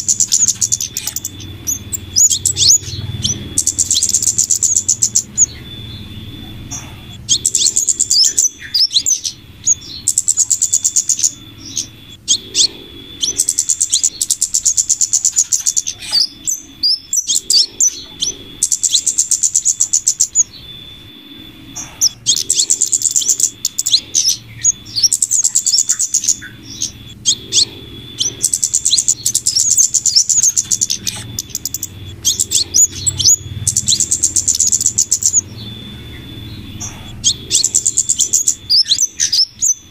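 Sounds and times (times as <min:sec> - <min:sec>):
rapid high ticking bird chatter: 0:00.0 - 0:39.9
thin steady high tone: 0:00.0 - 0:39.9.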